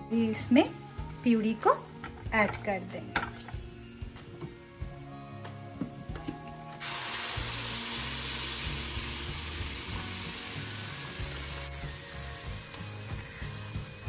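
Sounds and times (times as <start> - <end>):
soft background music: 0.0 - 14.0
tomato puree sizzling in butter: 0.2 - 4.9, 6.8 - 14.0.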